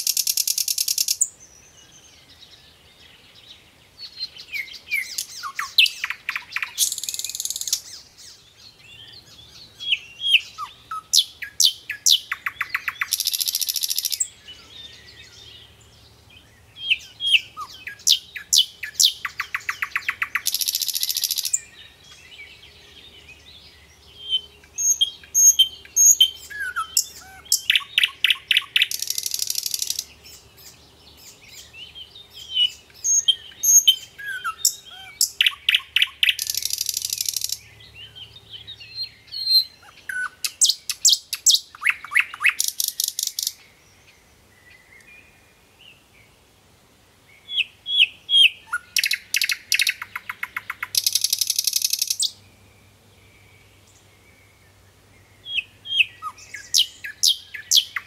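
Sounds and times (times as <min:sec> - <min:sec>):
songbird chirping and trilling: 0:00.0 - 0:58.0.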